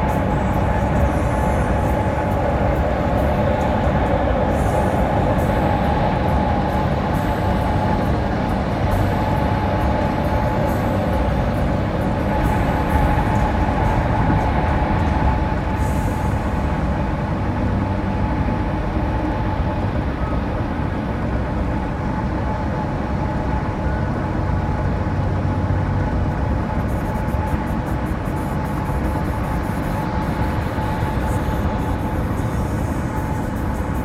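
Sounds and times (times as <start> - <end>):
drive-train rumble: 0.0 - 34.0
faint steady whine: 0.0 - 34.0.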